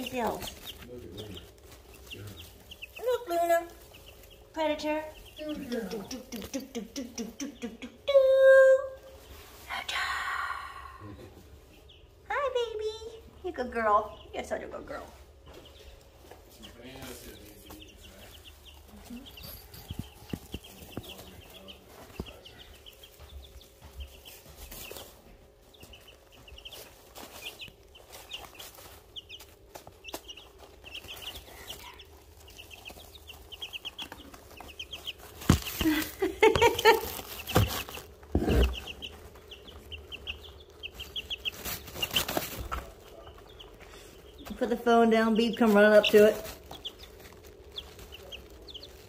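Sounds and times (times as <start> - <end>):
scratching in wood shavings: 0.0 - 7.6, 12.7 - 49.0
chicks peeping: 0.0 - 49.0.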